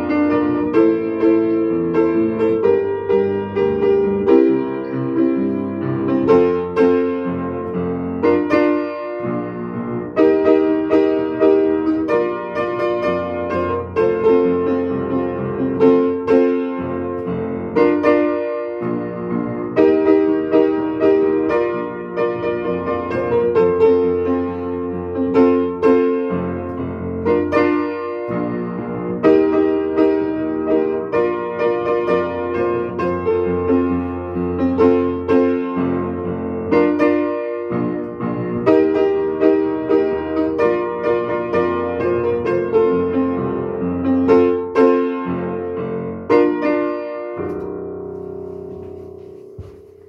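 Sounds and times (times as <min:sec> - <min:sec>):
upright piano chords and melody: 0:00.0 - 0:50.0.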